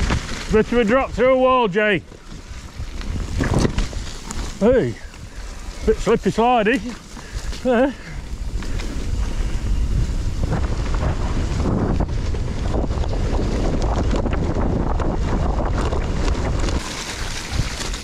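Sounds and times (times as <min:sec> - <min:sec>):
bike rattling on rough trail: 0:00.0 - 0:18.0
wind buffeting microphone: 0:00.0 - 0:18.0.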